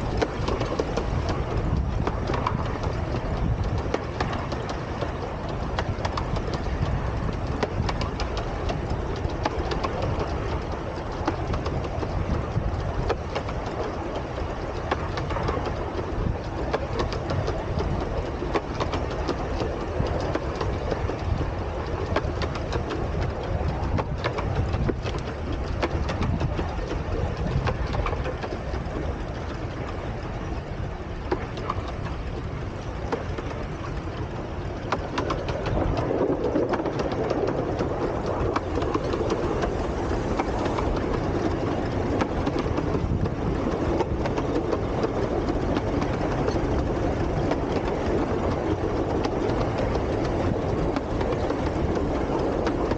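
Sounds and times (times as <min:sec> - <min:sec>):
steam train rumble: 0:00.0 - 0:52.9
wheels clicking on track: 0:00.0 - 0:52.9.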